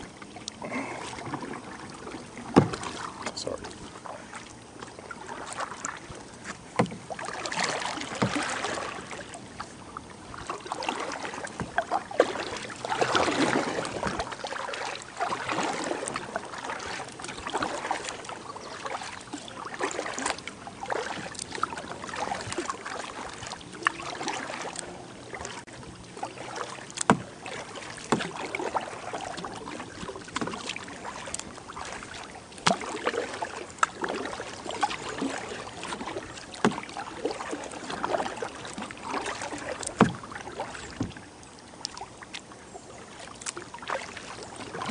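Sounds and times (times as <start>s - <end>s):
paddle splashing in water: 0.0s - 44.9s.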